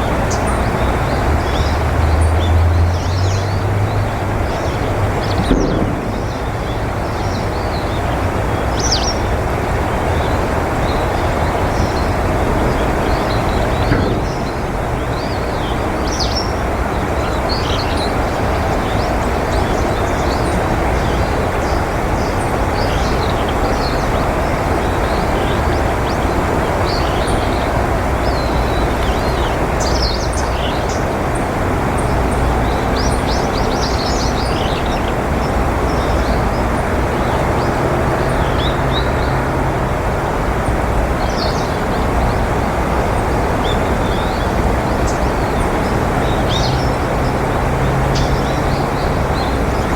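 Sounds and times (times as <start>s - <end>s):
loud steady background rumble: 0.0s - 49.9s.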